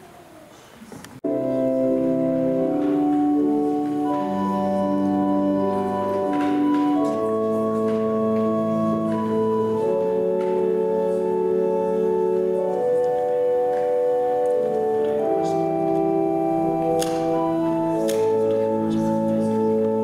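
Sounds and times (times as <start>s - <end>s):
organ playing held chords: 1.2s - 20.0s.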